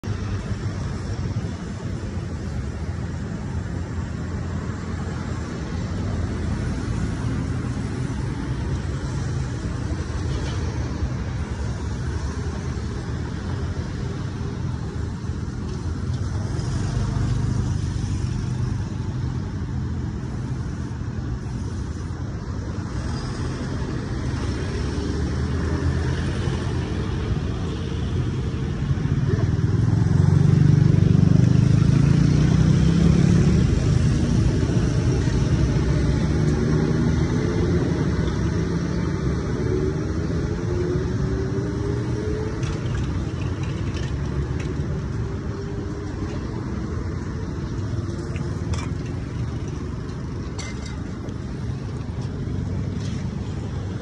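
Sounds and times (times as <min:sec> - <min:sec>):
cars and motorbikes passing: 0:00.0 - 0:54.0.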